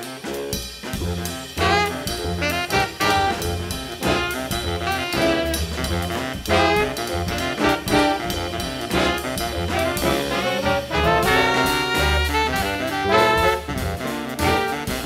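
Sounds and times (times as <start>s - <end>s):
drum kit: 0.0s - 15.0s
saxophones and brass horns: 0.0s - 15.0s
walking bass line: 0.9s - 15.0s.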